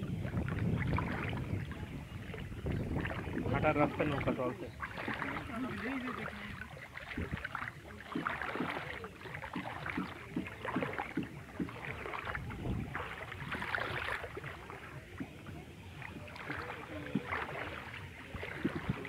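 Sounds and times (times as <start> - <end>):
paddles splashing in water: 0.0 - 19.0
water lapping around boat hull: 0.0 - 19.0.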